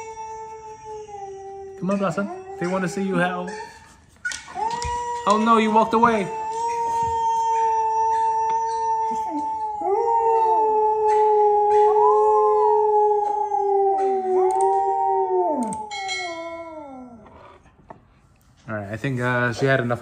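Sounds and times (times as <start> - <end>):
dogs howling: 0.0 - 17.7.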